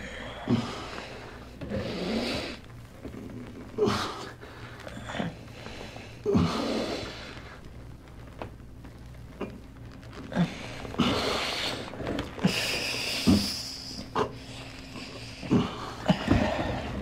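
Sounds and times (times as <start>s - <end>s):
low record hum: 0.0s - 17.0s.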